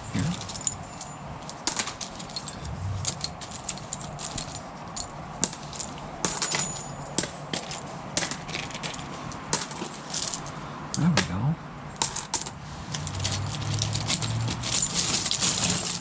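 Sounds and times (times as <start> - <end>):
coins and metal clinking: 0.0 - 10.6, 12.0 - 16.0.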